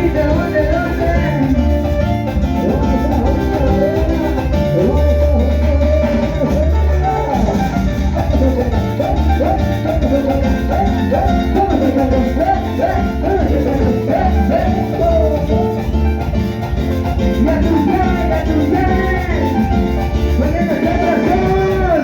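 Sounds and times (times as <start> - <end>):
salsa music: 0.0 - 22.0.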